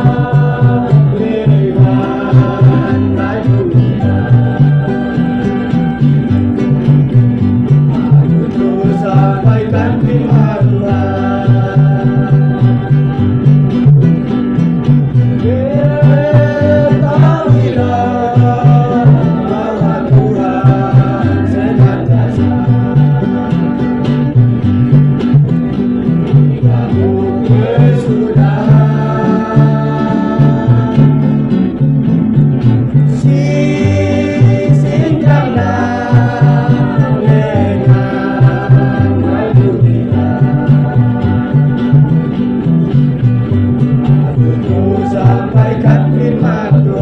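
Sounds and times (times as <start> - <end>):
plucked string accompaniment: 0.0 - 47.0
pulsing bass line: 0.0 - 47.0
vocal group singing in harmony: 0.0 - 47.0.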